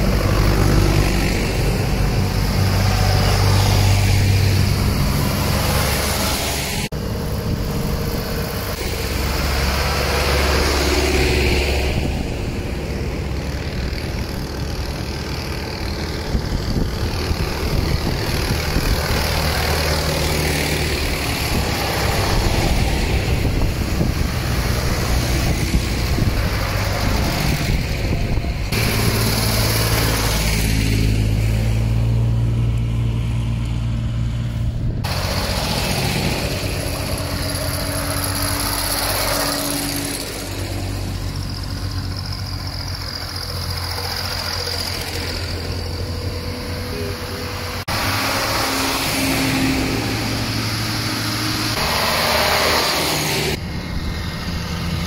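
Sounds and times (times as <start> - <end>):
tractor engines driving past: 0.0 - 55.0
tyre noise on road: 0.0 - 55.0.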